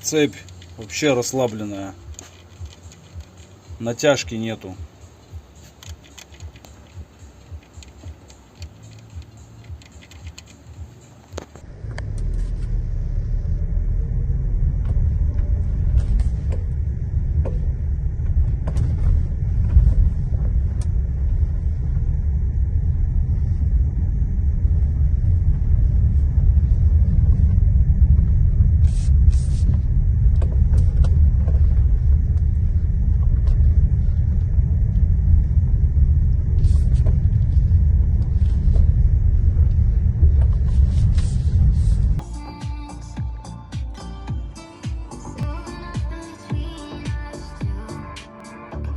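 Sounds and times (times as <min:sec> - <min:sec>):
car rumbling: 0:00.0 - 0:43.2.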